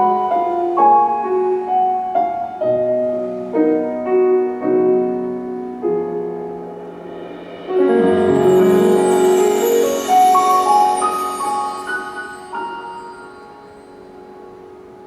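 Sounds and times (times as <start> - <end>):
solo piano ballad: 0.0 - 15.0.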